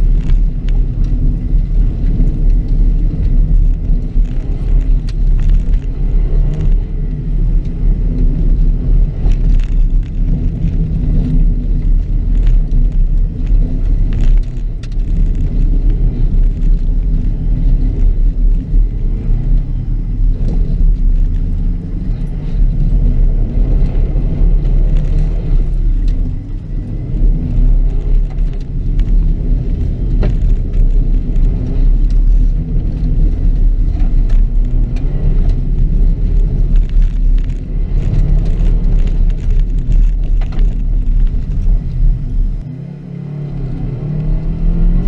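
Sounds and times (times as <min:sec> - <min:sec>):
car engine running hard: 0:00.0 - 0:45.0.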